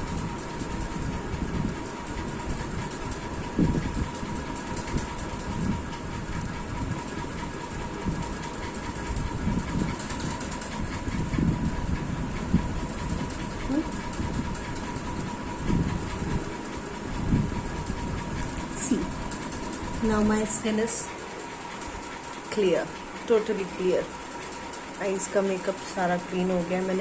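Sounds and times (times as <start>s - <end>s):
room fan whirring: 0.0s - 27.0s.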